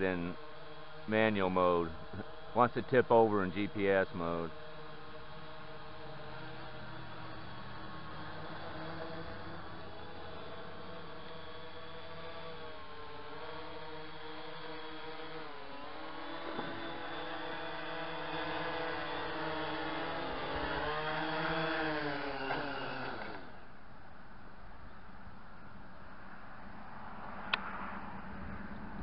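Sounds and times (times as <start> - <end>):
quadcopter motors whining: 0.0 - 23.8.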